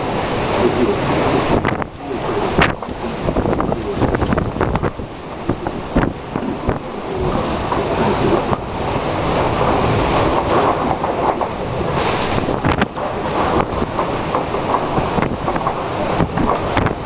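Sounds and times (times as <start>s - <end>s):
strong wind roaring: 0.0s - 17.0s
wind and rain striking microphone: 0.0s - 17.0s.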